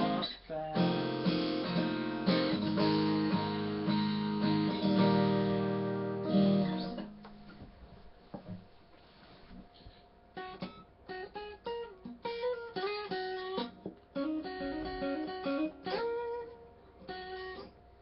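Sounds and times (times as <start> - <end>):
acoustic guitar strumming chords: 0.0 - 7.6, 10.4 - 17.8.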